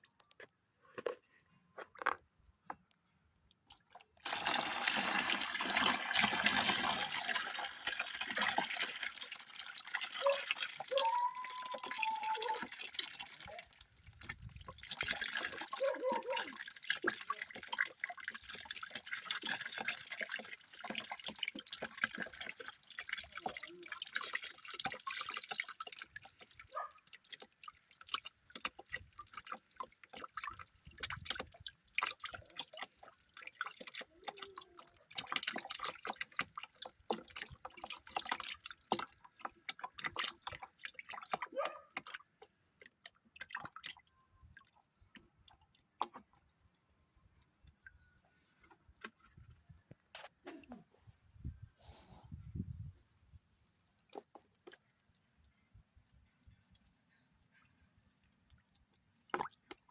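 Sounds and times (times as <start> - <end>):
water splashing and dripping: 3.4 - 51.8, 52.4 - 59.9.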